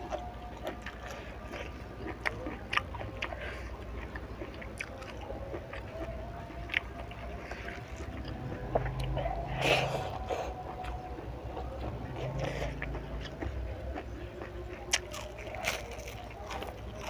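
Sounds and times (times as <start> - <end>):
biting and chewing: 0.0 - 17.0.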